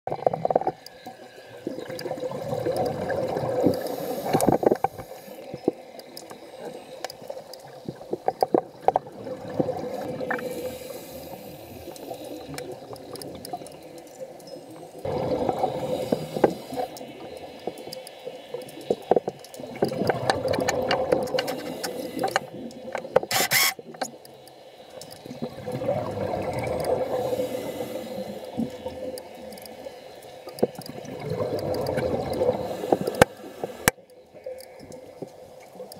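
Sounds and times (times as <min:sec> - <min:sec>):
steady underwater hum: 0:00.1 - 0:35.9
rushing water swells: 0:00.2 - 0:35.9.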